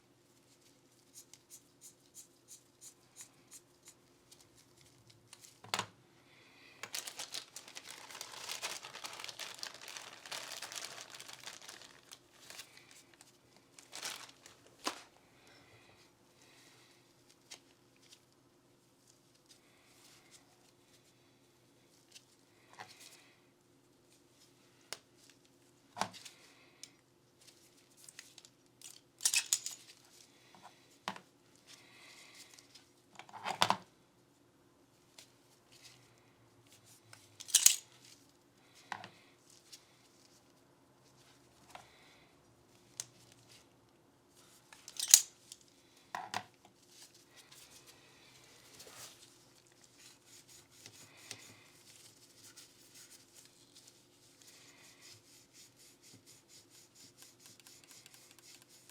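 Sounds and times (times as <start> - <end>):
faint steady hum: 0.0 - 58.9.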